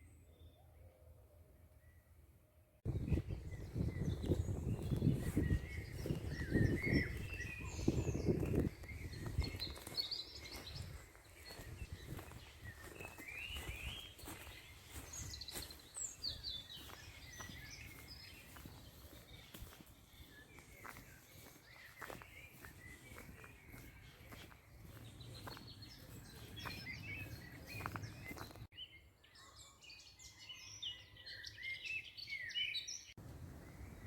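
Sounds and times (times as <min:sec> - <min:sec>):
small birds chirping: 0:02.9 - 0:34.0.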